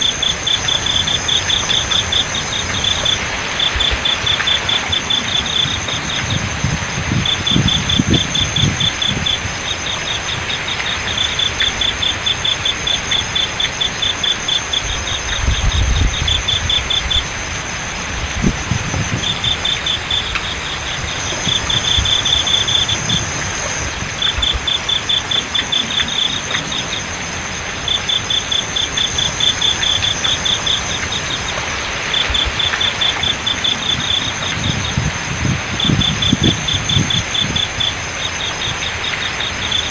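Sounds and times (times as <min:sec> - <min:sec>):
crickets chirping: 0:00.0 - 0:39.9
flowing water: 0:00.0 - 0:39.9
high-pitched insect trill: 0:00.0 - 0:39.9.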